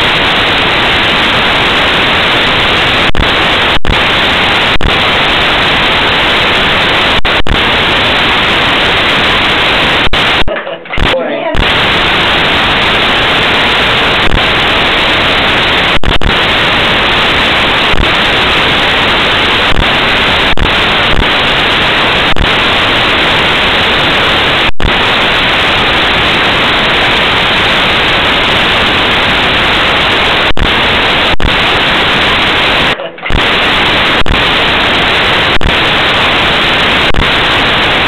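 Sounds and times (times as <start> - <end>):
loud static hiss: 0.0 - 38.0.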